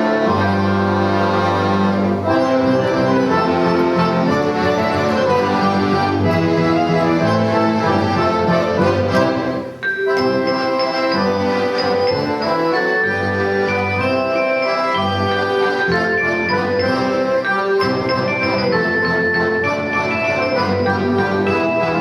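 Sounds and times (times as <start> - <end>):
accordion orchestra playing: 0.0 - 22.0.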